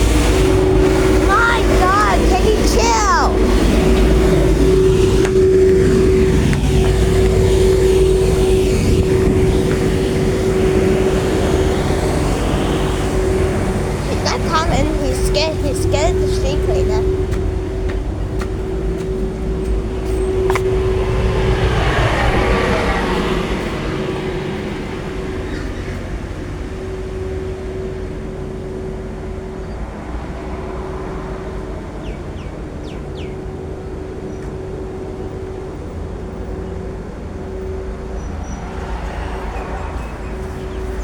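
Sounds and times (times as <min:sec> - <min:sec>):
constant machine whine: 0:00.0 - 0:41.0
street sweeper engine drone: 0:00.0 - 0:41.0.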